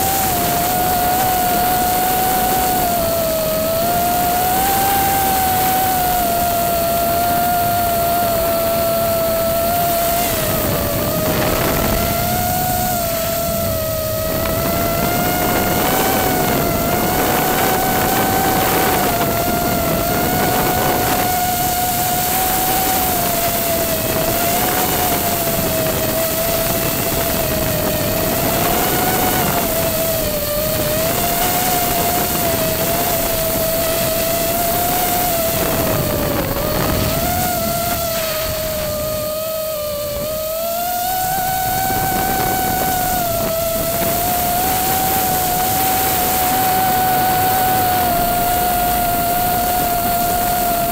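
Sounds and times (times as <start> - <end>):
drone motors whining: 0.0 - 50.9
steady rushing hiss: 0.0 - 50.9.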